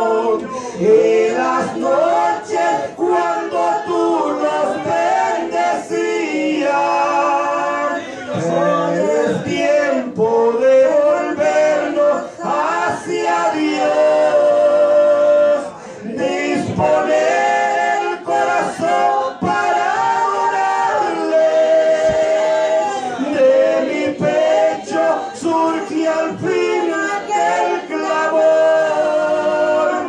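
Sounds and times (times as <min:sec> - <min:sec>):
man and woman singing a hymn: 0:00.0 - 0:30.0.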